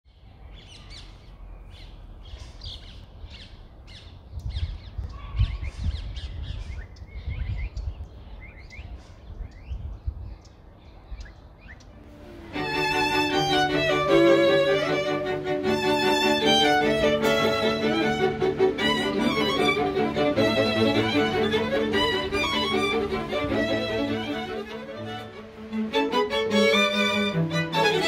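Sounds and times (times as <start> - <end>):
birds chirping: 0.1 - 28.0.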